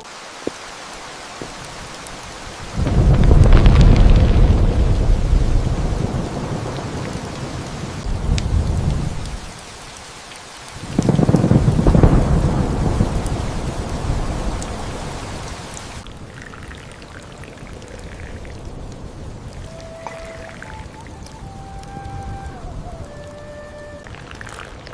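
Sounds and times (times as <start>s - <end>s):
steady rain: 0.0s - 24.9s
thunder rumbling: 1.4s - 9.6s, 10.8s - 24.2s.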